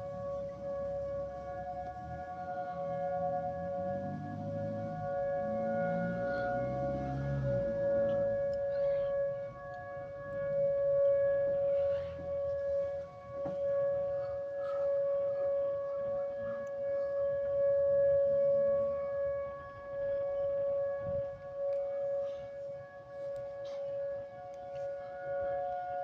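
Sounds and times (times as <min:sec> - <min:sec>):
warning siren steady chord: 0:00.0 - 0:26.0.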